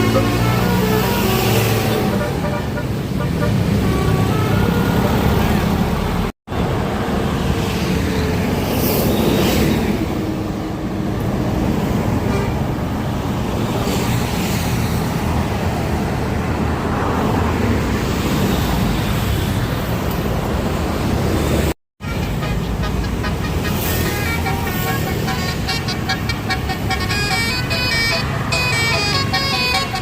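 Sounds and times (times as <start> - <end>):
road traffic passing: 0.0 - 30.0.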